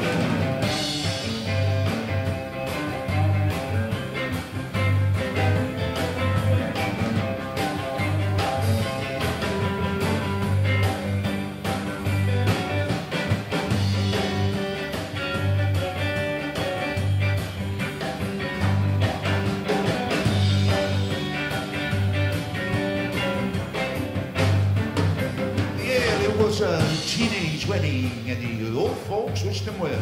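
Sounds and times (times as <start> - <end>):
drum kit: 0.0 - 30.0
electric bass: 0.0 - 30.0
electric guitar: 0.0 - 30.0.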